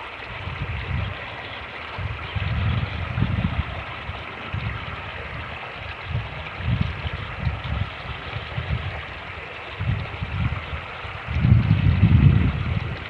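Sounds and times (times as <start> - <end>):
creek water rushing: 0.0 - 13.0
wind buffeting microphone: 0.0 - 13.0.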